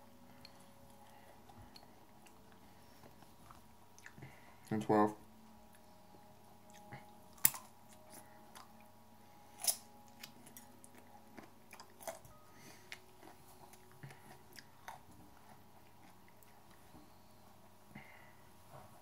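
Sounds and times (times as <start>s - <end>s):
chewing and crunching: 0.0s - 4.8s, 5.4s - 18.1s.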